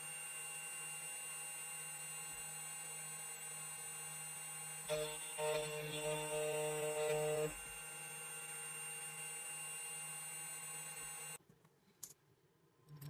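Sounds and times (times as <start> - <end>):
key cutting machine whine: 0.0 - 11.4.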